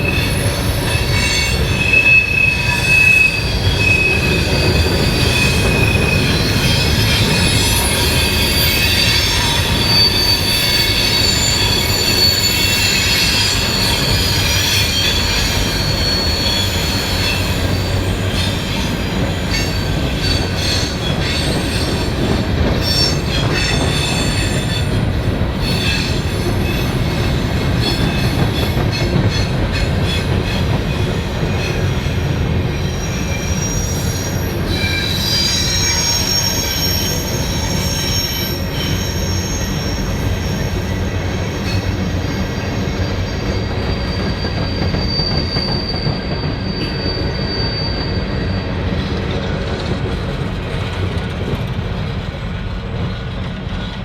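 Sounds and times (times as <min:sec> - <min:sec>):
train rumbling: 0:00.0 - 0:54.0
train wheels squealing: 0:00.0 - 0:54.0.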